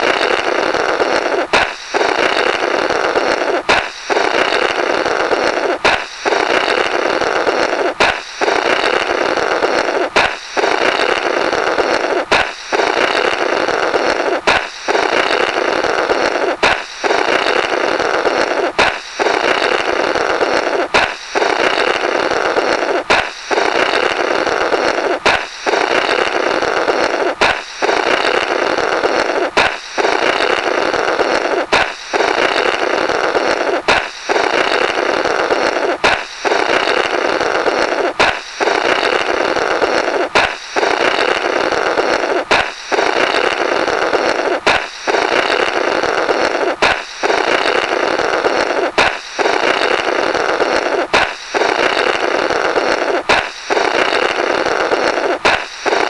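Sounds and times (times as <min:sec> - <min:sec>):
air blown through burst rubber: 0:00.0 - 0:56.0
balloon popping: 0:00.0 - 0:56.0.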